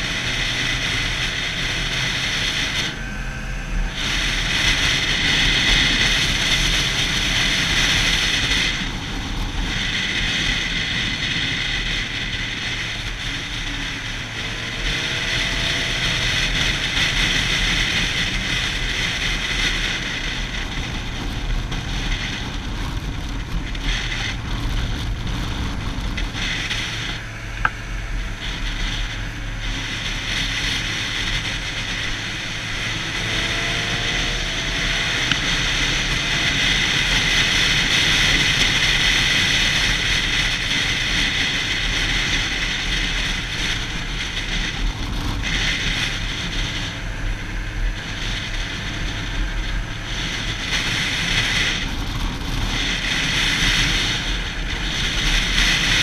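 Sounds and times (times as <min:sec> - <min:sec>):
motorcycle engine at speed: 0:00.0 - 0:56.0
wind noise: 0:00.0 - 0:56.0.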